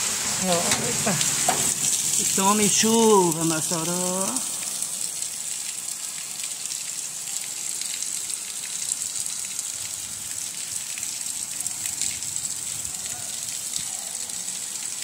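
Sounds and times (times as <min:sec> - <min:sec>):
heavy rain on cobblestones: 0:00.0 - 0:15.0.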